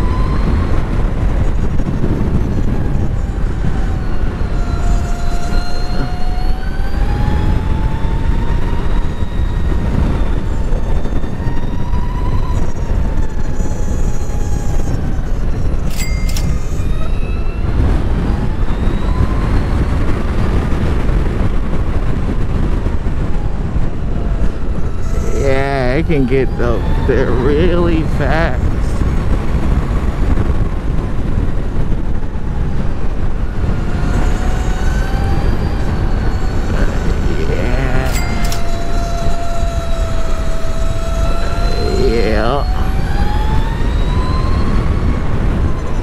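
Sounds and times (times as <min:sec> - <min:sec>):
wind rumble on microphone: 0:00.0 - 0:46.0.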